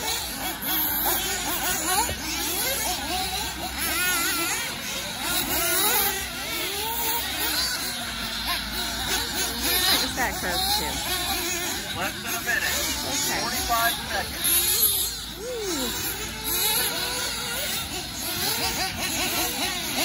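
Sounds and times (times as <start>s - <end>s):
rc buggy engines buzzing: 0.0s - 20.0s.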